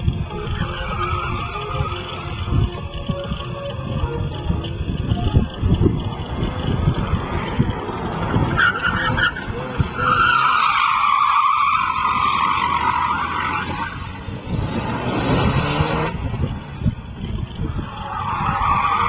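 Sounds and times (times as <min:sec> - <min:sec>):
car engine running: 0:00.0 - 0:10.3, 0:11.9 - 0:19.0
tyres squealing: 0:00.0 - 0:14.3, 0:17.6 - 0:19.0.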